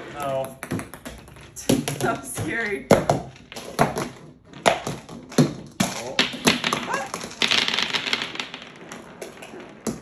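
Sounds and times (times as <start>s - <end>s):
small balls bouncing on a table: 0.0s - 10.0s.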